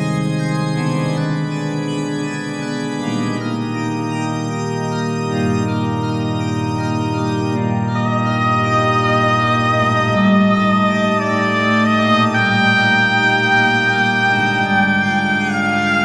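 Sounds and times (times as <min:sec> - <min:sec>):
sustained organ chords: 0:00.0 - 0:16.0.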